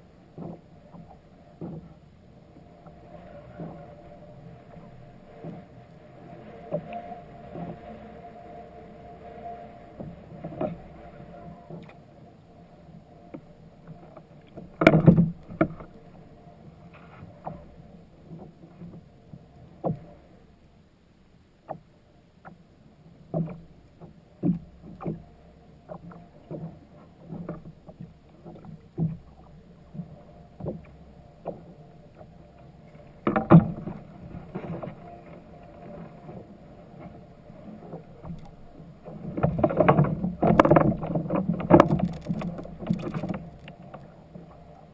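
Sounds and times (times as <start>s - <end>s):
low wash of water: 0.0s - 44.9s.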